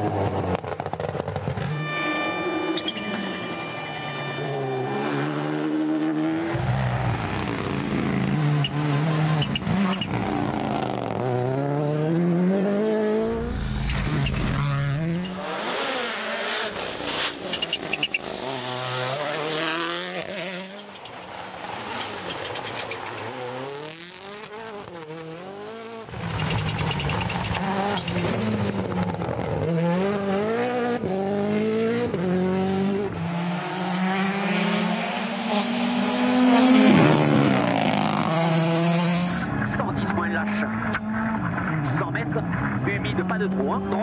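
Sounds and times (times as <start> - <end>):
rally car engines revving: 0.0 - 44.0.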